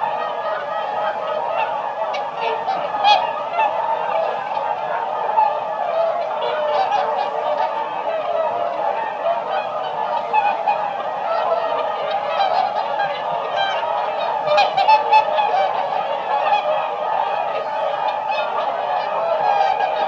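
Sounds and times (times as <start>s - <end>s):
swans honking: 0.0s - 20.0s.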